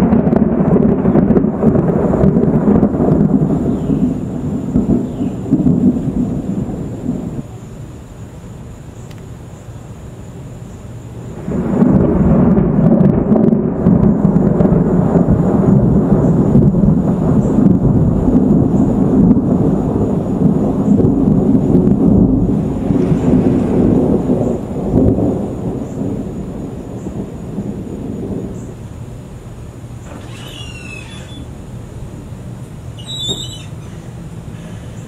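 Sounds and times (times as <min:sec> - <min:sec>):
thunder rumbling: 0:00.0 - 0:08.9, 0:11.0 - 0:34.6.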